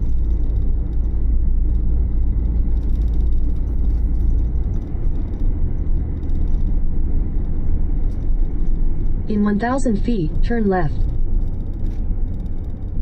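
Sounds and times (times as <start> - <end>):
engine and road rumble in cabin: 0.0 - 13.0.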